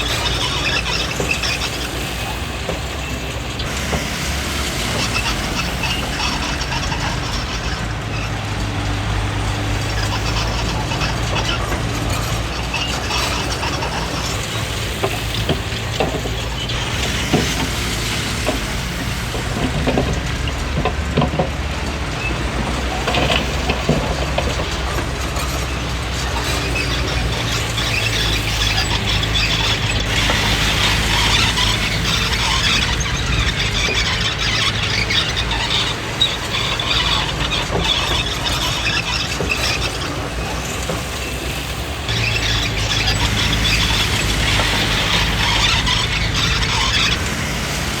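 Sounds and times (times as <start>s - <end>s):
bulldozer diesel engine: 0.0s - 48.0s
steel tracks squealing and clattering: 0.0s - 48.0s.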